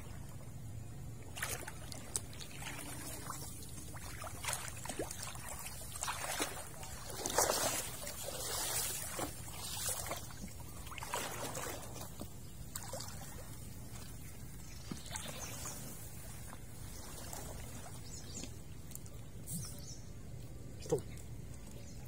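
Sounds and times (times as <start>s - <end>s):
water splashing and trickling: 0.0s - 22.0s.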